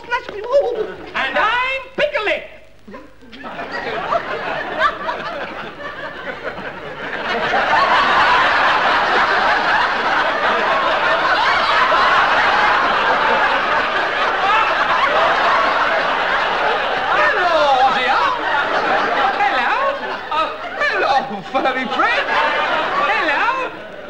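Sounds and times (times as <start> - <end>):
studio audience laughing: 2.9 - 24.0.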